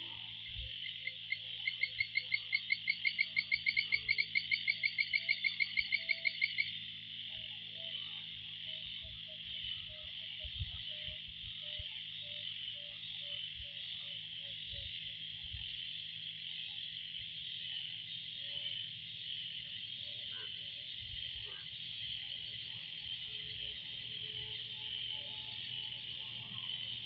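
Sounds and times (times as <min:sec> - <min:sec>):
frogs chorus high-pitched: 0:00.0 - 0:27.0.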